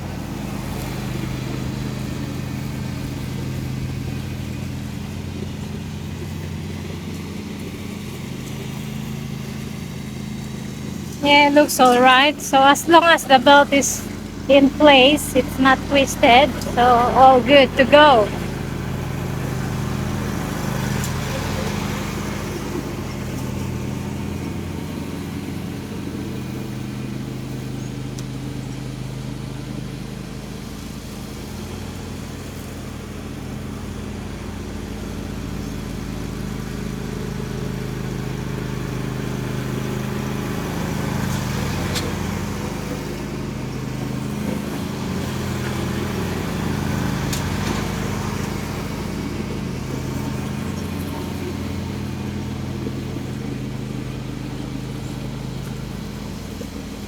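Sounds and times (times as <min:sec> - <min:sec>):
riding lawn mower running: 0:00.0 - 0:57.0.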